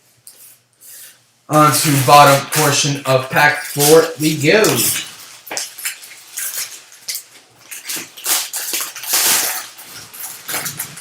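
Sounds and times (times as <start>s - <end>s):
card pack crinkling: 1.6s - 11.0s.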